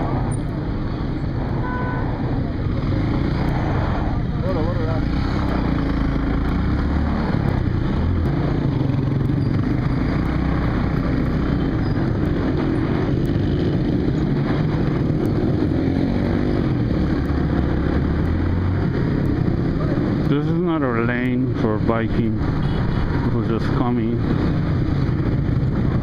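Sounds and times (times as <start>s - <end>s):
surrounding traffic noise: 0.0s - 26.0s.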